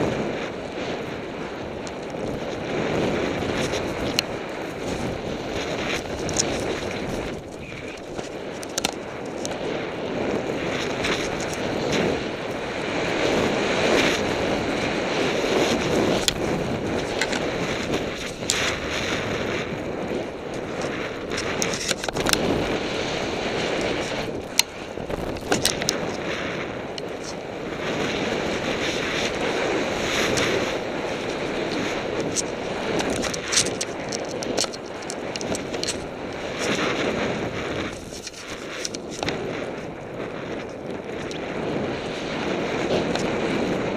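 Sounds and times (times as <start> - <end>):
snowboard scraping over snow: 0.0 - 43.9
wind buffeting microphone: 0.0 - 43.9.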